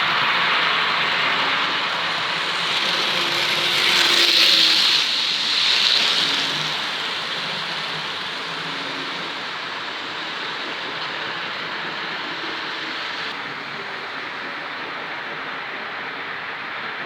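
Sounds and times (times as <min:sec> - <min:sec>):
model train motor whirring: 0:00.0 - 0:17.0
wheels on rails: 0:00.0 - 0:17.0.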